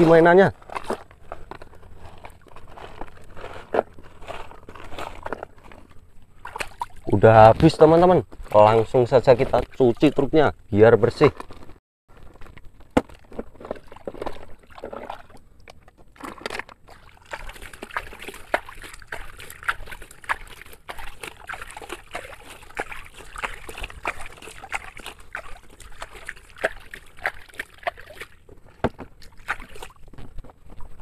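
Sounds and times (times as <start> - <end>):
water sloshing and splashing: 0.0 - 10.5, 11.4 - 31.0.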